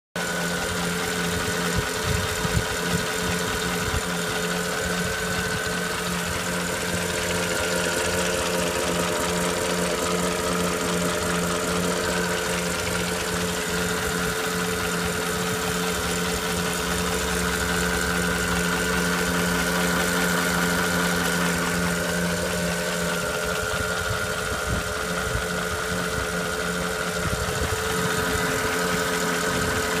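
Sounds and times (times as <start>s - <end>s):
car engine idling: 0.2s - 30.0s
regular engine ticking: 0.2s - 30.0s.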